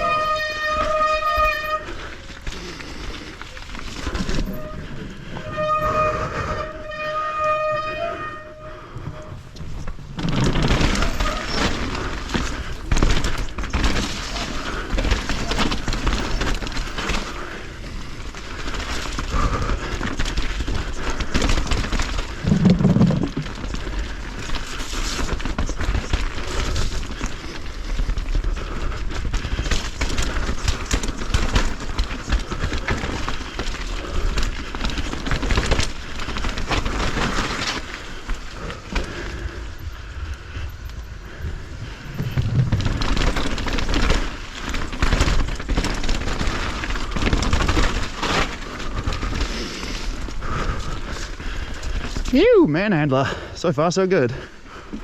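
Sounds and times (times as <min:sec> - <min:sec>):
bike rattling and knocking: 0:00.0 - 0:53.5
bike tyre and trail noise: 0:00.0 - 0:55.0.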